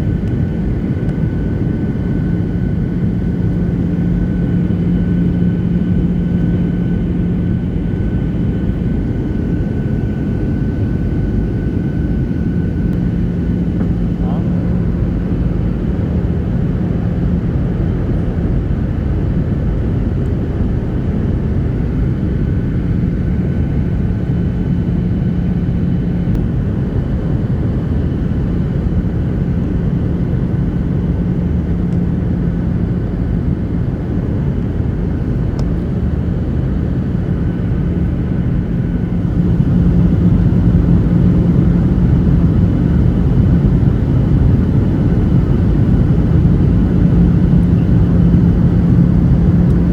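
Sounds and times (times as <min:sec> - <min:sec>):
constant low hum: 0:00.0 - 0:49.9
engine and airflow rumble: 0:00.0 - 0:49.9.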